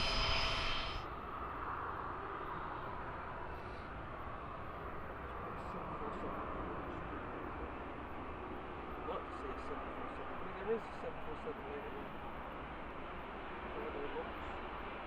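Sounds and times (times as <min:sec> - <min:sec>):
distant jet engine rumble: 0:00.0 - 0:15.0.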